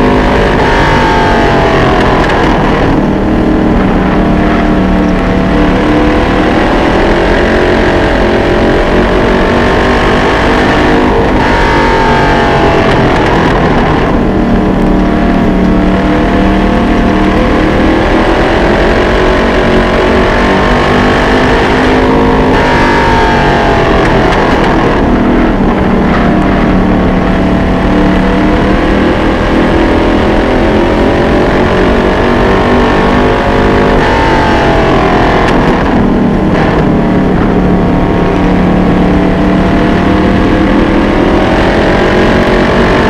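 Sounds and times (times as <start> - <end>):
race car engine running hard: 0.0 - 43.0.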